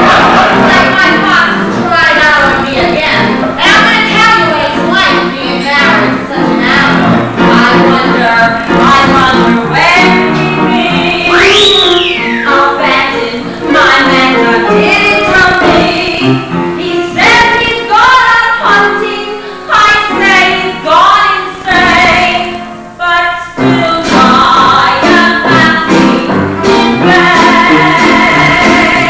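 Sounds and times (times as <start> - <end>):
instrumental accompaniment: 0.0 - 29.0
woman singing show tune: 0.5 - 29.0.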